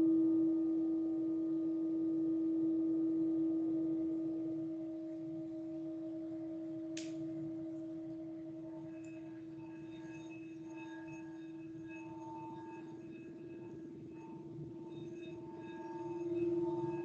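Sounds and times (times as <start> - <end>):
faint high ringing tones: 0.0 - 17.0
singing bowl low tone: 0.0 - 17.0.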